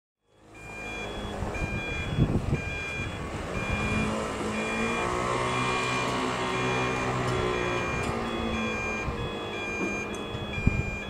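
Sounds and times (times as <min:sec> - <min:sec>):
two-tone crossing alarm: 0:00.2 - 0:11.0.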